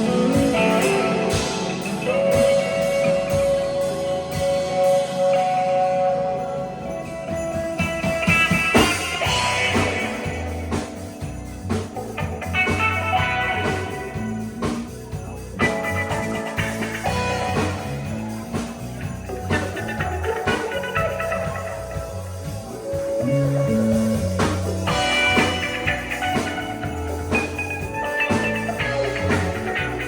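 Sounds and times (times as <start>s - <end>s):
bass line: 0.0s - 30.0s
drum kit: 0.0s - 30.0s
electric guitar: 0.0s - 30.0s.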